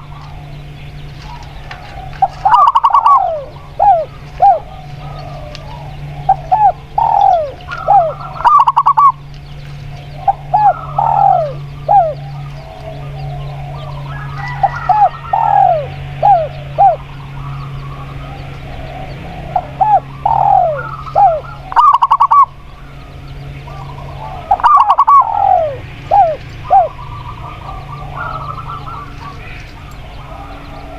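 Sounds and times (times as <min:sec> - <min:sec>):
doves cooing: 0:00.0 - 0:30.9
steady low hum: 0:00.0 - 0:30.9.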